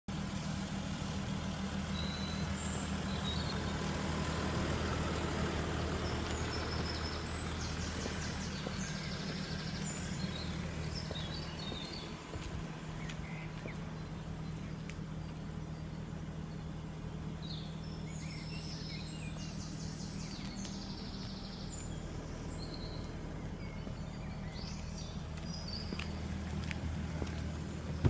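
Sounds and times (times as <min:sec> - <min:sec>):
car engine idling: 0:00.1 - 0:28.0.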